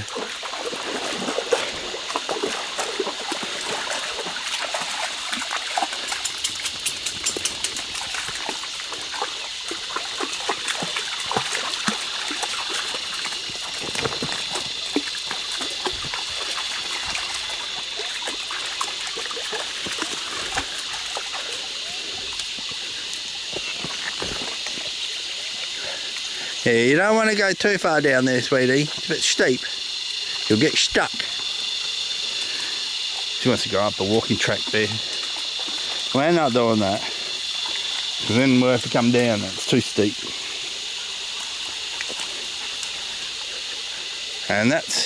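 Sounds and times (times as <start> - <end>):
creek water trickling: 0.0 - 45.0
dogs splashing in water: 0.0 - 45.0.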